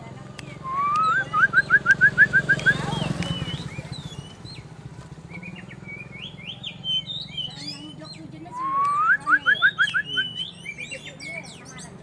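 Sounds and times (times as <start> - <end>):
bird singing whistled chirps: 0.6 - 12.0.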